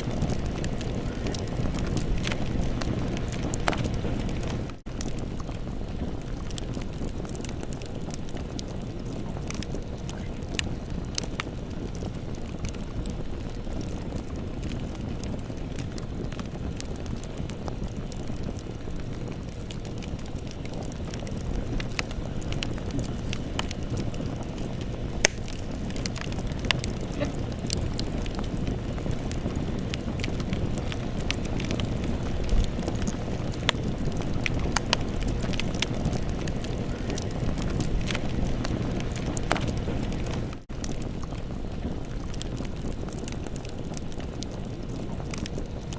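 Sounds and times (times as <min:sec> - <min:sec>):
burning wood crackling and popping: 0:00.0 - 0:45.9
campfire low rumble: 0:00.0 - 0:45.9.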